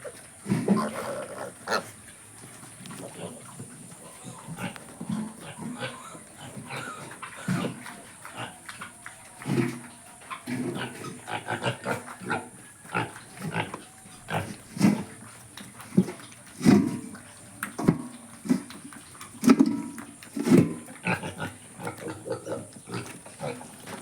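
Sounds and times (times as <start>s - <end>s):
pigs grunting: 0.0s - 24.0s.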